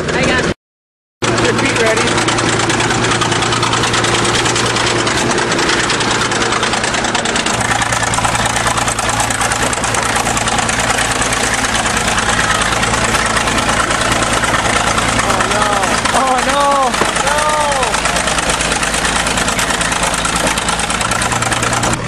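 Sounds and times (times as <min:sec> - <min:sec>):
bulldozer diesel engine idling: 0:01.2 - 0:22.0.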